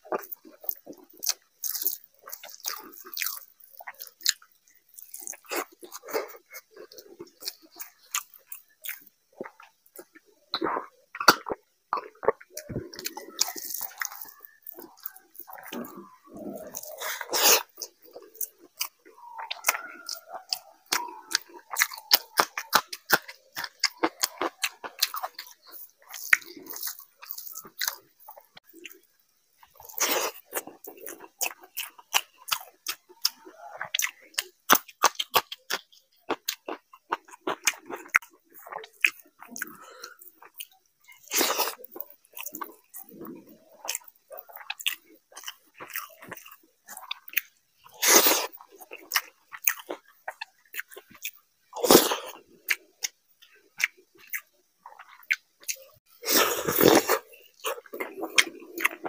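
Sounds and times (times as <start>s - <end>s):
wet chewing and mouth smacks: 0.0s - 59.0s.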